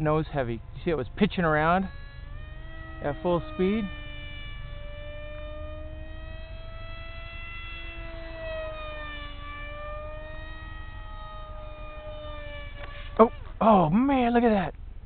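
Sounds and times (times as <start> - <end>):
model airplane motor whine: 0.0 - 14.6
steady low rumble: 0.0 - 15.0.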